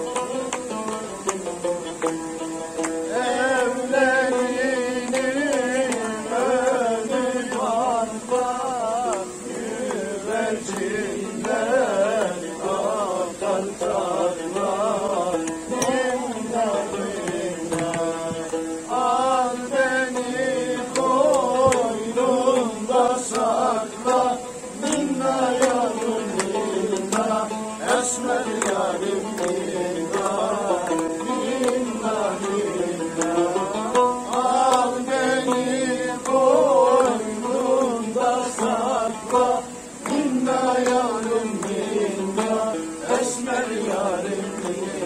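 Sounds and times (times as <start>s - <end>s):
instrumental accompaniment: 0.0s - 45.0s
person singing ornamented melody: 0.0s - 45.0s.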